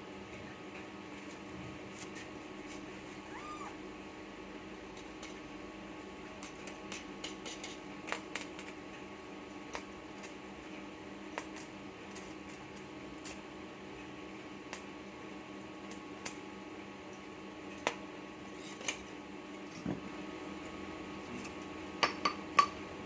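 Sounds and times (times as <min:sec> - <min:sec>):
power inverter hum and fan: 0:00.0 - 0:23.0.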